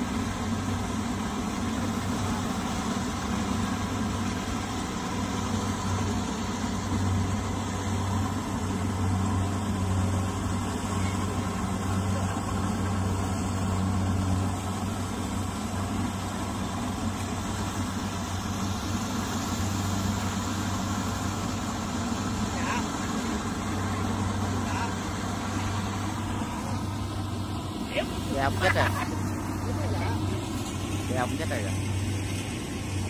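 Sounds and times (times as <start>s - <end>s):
combine harvester engine humming: 0.0s - 33.0s.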